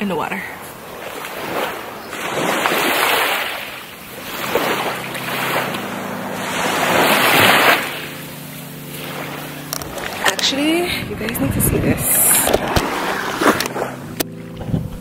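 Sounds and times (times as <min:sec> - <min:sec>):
small waves washing onto shore: 0:00.5 - 0:14.6.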